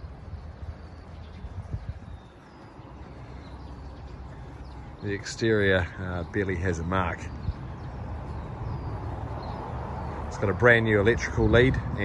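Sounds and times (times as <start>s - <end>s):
faint bird chirps: 0.0s - 10.8s.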